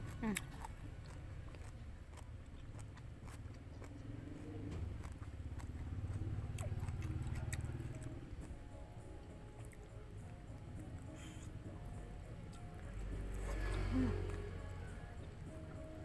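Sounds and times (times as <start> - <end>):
biting and chewing food: 0.0 - 16.0.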